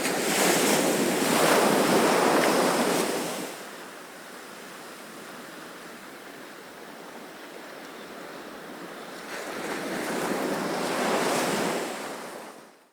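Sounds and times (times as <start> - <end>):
ocean waves on a beach: 0.0 - 12.8.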